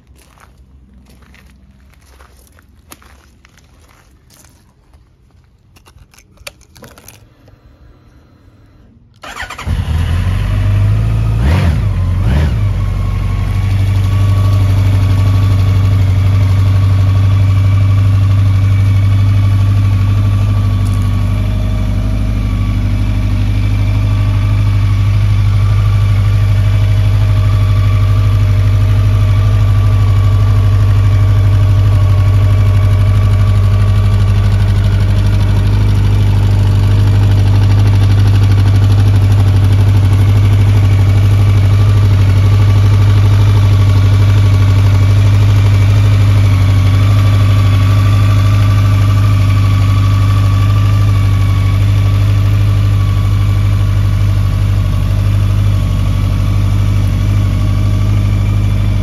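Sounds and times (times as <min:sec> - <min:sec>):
motorcycle engine starting and revving: 0:08.8 - 0:59.0.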